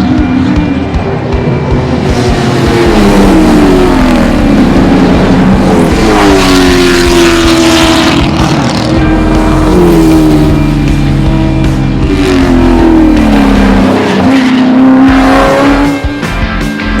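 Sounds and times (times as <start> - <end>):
racing car engines revving hard: 0.0 - 17.0.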